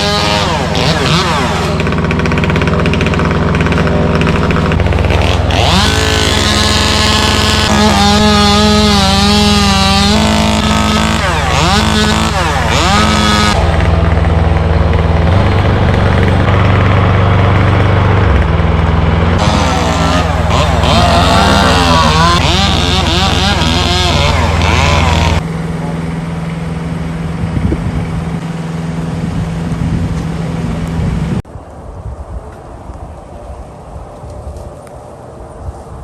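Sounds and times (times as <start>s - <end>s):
engines running: 0.0s - 35.6s.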